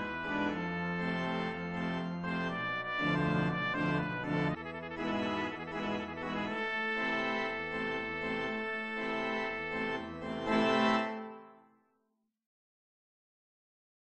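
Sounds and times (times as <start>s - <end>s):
accordion and trumpet mambo: 0.0s - 11.6s.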